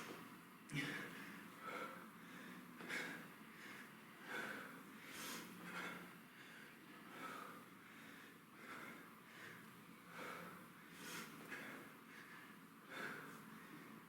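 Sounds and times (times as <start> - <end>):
man breathing hard: 0.7 - 14.0.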